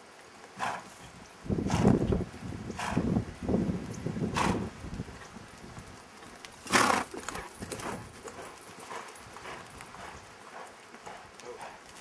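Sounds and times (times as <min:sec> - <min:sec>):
hooves thudding on sand: 0:00.3 - 0:12.0.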